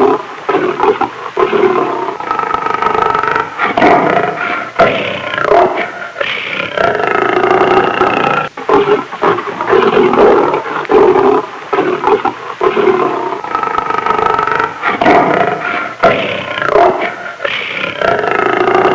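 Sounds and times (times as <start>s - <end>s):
lion roaring: 0.0s - 18.9s.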